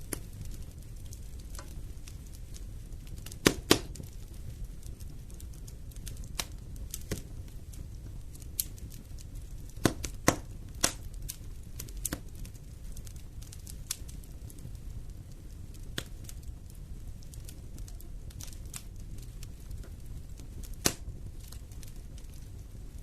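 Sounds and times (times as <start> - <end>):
sharp pops of fire: 0.0 - 23.0
wood fire crackling: 0.0 - 23.0.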